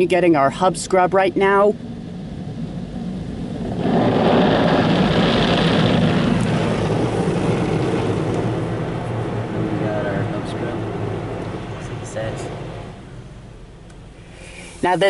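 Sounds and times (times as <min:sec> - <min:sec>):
low steady hum: 0:00.0 - 0:15.0
water jets spraying on car: 0:00.8 - 0:13.5, 0:14.1 - 0:15.0.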